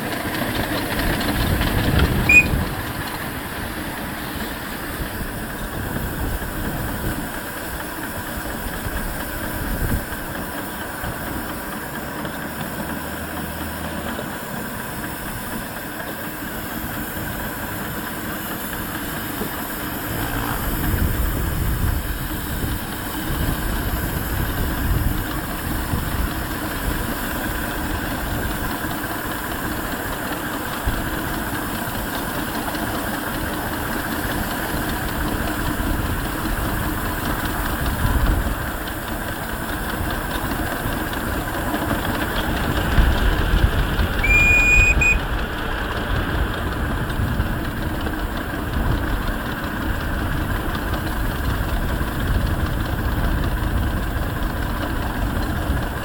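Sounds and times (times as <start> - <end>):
locomotive chimney exhaust: 0.0 - 56.0
steam hiss: 0.0 - 56.0.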